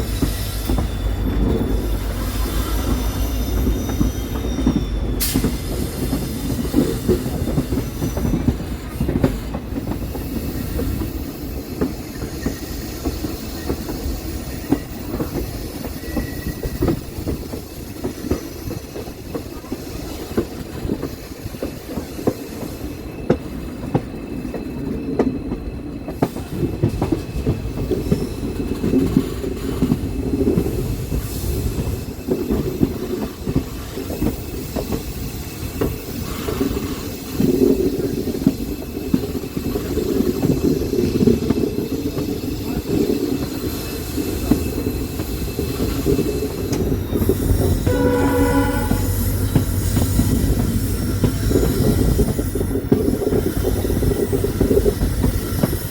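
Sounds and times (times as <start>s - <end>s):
train rumbling on rails: 0.0s - 55.9s.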